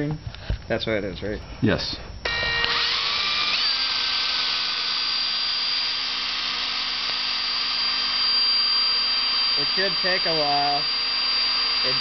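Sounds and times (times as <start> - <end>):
electric drill whining: 2.2 - 12.0.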